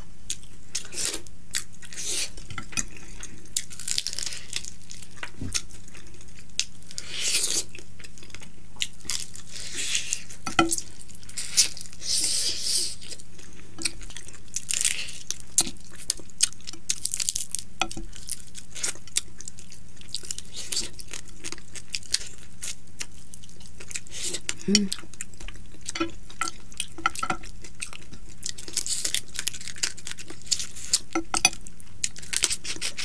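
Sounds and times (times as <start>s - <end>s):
faint steady hum: 0.0s - 33.0s
person chewing crunchy food: 0.0s - 33.0s.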